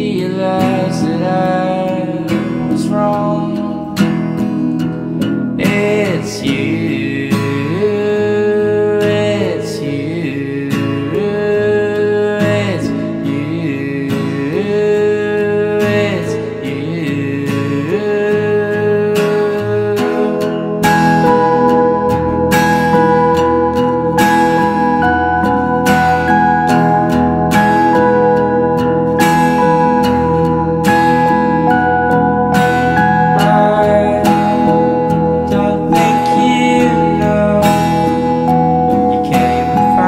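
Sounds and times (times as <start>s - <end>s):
guitar song with sliding notes: 0.0s - 40.0s.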